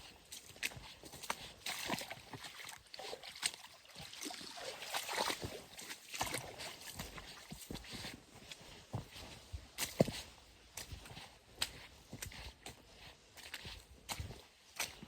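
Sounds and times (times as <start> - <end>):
footsteps on forest floor: 0.0 - 3.1, 5.0 - 15.0.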